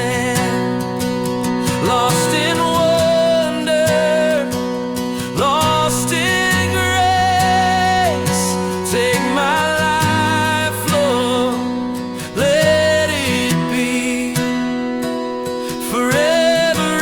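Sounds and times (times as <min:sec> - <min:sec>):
slow acoustic worship song: 0:00.0 - 0:17.0.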